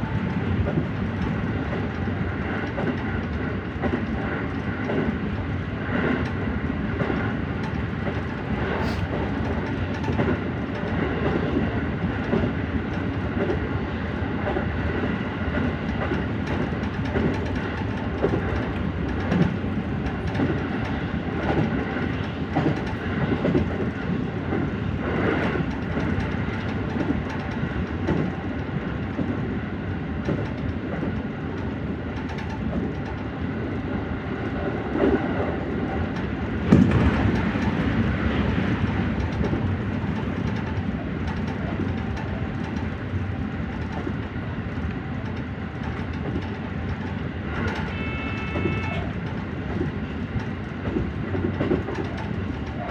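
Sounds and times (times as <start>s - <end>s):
train wheels clacking over rail joints: 0.0s - 52.9s.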